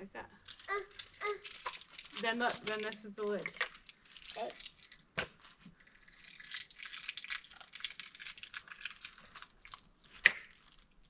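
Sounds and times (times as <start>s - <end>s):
plastic packaging crinkling: 0.4s - 11.0s.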